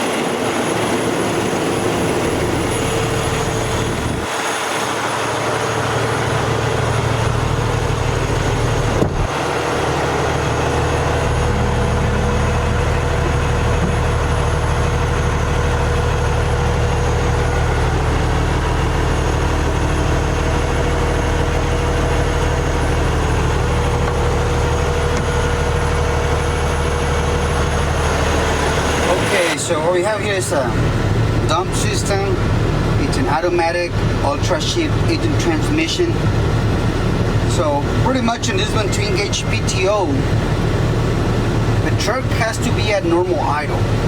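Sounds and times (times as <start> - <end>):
diesel truck engine idling: 0.0 - 44.0.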